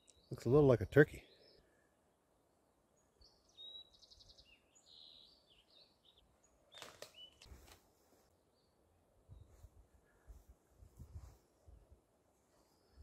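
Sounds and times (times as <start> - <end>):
songbird chirps and trill: 0.0 - 10.5.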